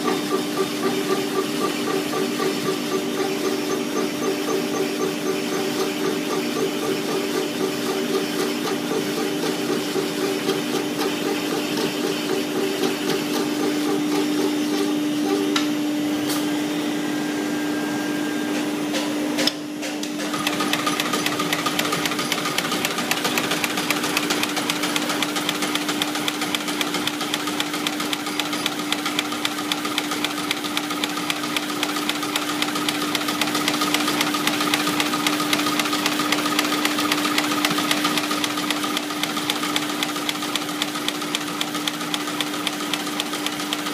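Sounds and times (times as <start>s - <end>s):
tufting machine clatter: 0.0s - 15.6s, 19.9s - 43.9s
steady machine hum: 0.0s - 43.9s.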